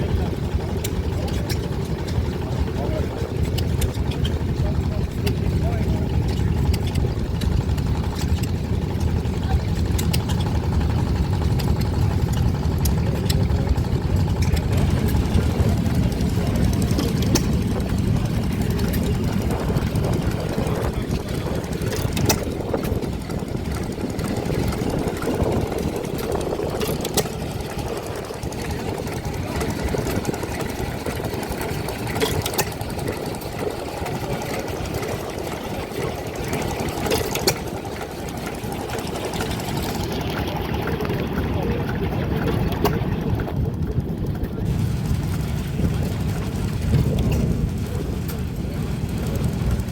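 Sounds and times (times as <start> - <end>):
stationary engines running: 0.0 - 49.9.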